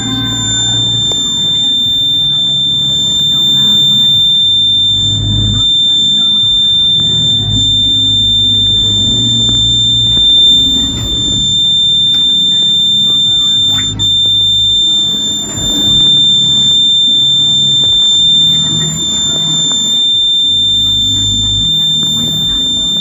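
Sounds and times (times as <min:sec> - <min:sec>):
fire alarm buzzer tone: 0:00.0 - 0:23.0.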